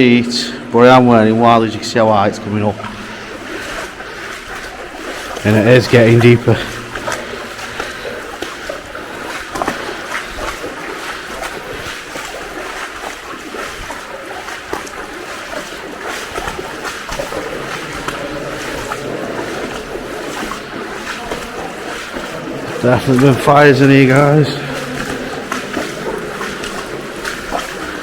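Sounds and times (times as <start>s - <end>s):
boots wading through water: 0.0s - 28.0s.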